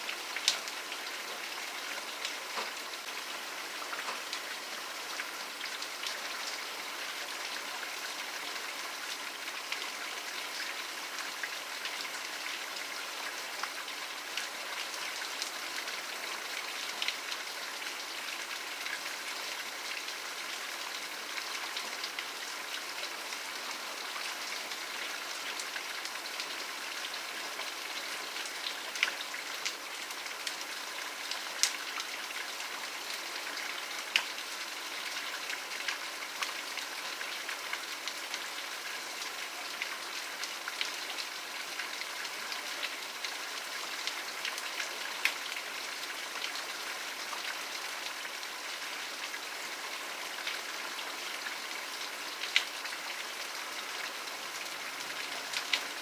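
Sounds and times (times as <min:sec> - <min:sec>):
raindrops ticking on a surface: 0:00.0 - 0:49.7, 0:50.4 - 0:56.0
steady rain hiss: 0:00.0 - 0:56.0.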